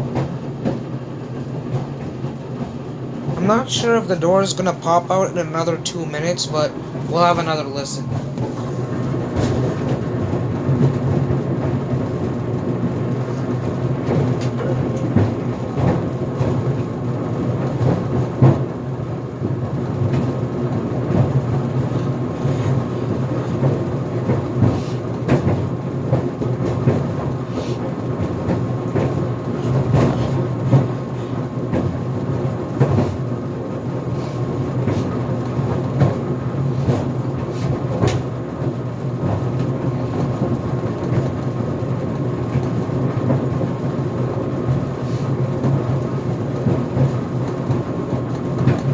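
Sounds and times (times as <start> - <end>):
dryer drum rumble: 0.0 - 48.9.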